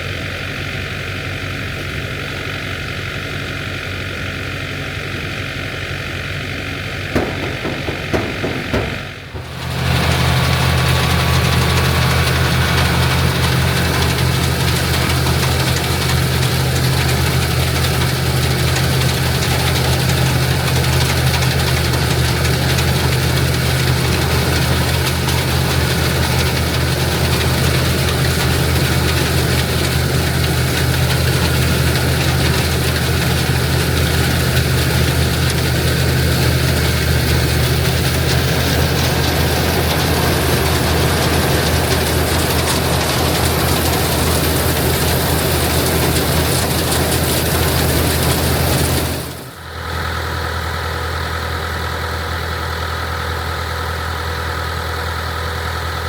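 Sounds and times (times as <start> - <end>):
tractor and combine droning: 0.0 - 56.0.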